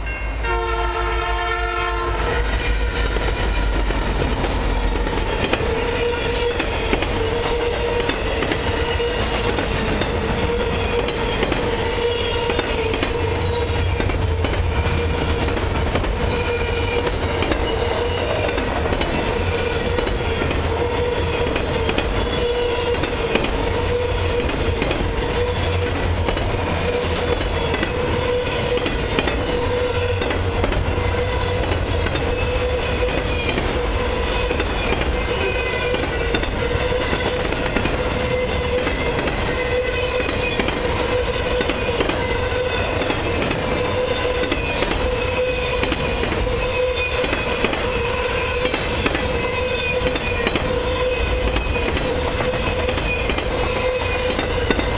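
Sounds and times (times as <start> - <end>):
freight train wheels on rail: 0.0 - 54.9
clickety-clack over rail joints: 1.8 - 54.9.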